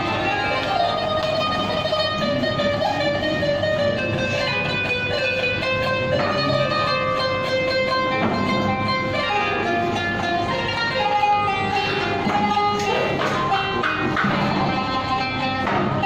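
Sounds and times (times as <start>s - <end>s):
plucked zither melody: 0.0s - 16.0s.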